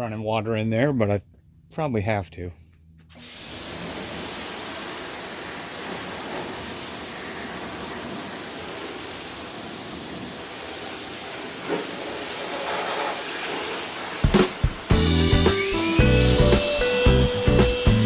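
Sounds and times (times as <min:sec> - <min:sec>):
pressure washer water jet hissing: 0:03.1 - 0:18.0.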